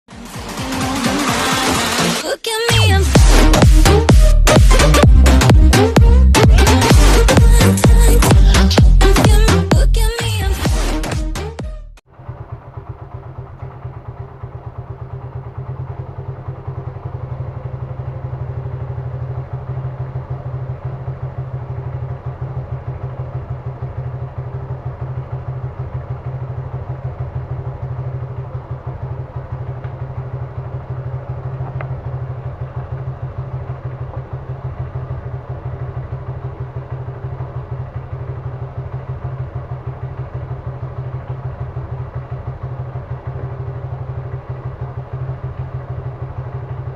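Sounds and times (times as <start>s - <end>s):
motorcycle engine idling: 0.1s - 46.9s.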